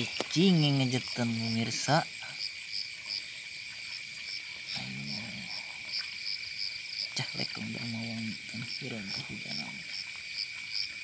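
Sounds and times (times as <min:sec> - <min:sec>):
insect chirps: 0:00.0 - 0:11.0
insect drone: 0:00.0 - 0:11.0.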